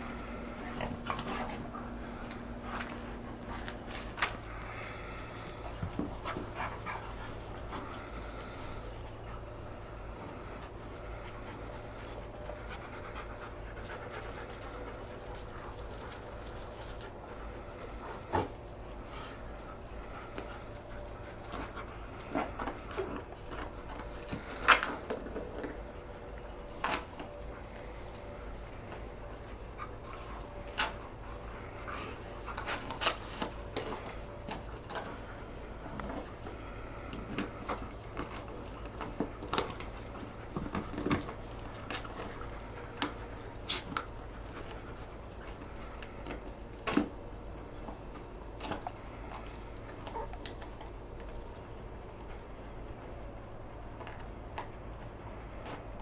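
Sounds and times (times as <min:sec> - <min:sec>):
dogs panting: 0:00.0 - 0:56.0
dogs scuffling: 0:00.0 - 0:56.0
teeth and paws clicking on frisbee: 0:00.0 - 0:56.0.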